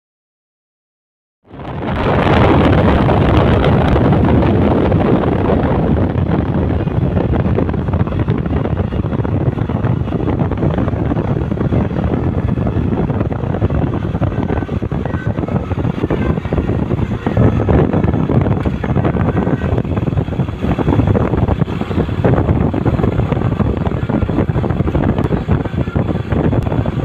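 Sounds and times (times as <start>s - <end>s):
wind buffeting microphone: 1.5s - 27.0s
road traffic rushing: 1.6s - 27.0s.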